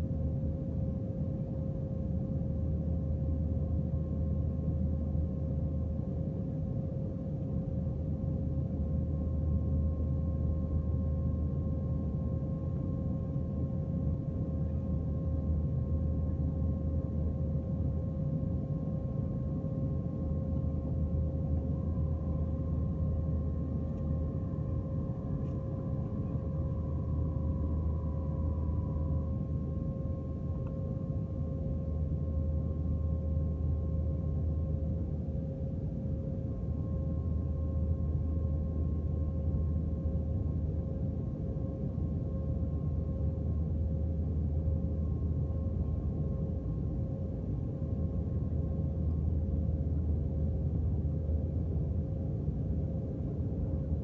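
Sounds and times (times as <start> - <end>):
aircraft engine and airflow rumble: 0.0 - 54.0
faint constant whine: 0.0 - 54.0.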